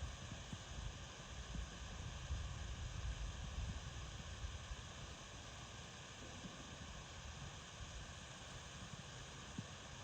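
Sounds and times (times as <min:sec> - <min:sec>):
outdoor background hiss and rumble: 0:00.0 - 0:10.0.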